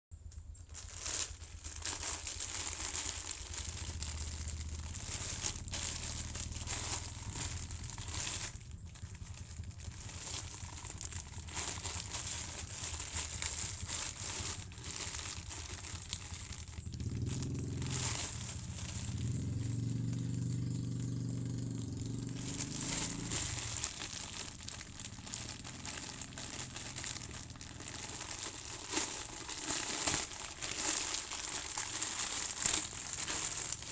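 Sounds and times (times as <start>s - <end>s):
low hum: 0.1s - 33.9s
plastic packaging crinkling: 0.2s - 33.9s.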